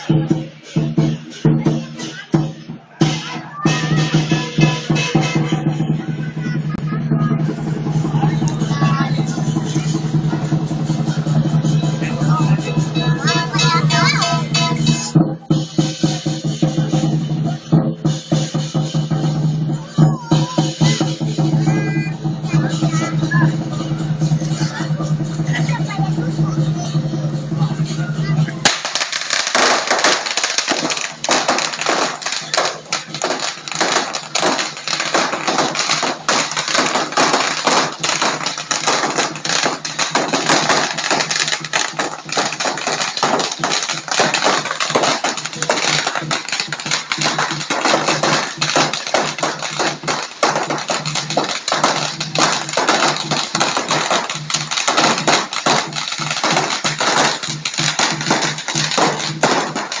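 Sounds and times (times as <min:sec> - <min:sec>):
firecrackers popping: 0:00.0 - 1:00.0.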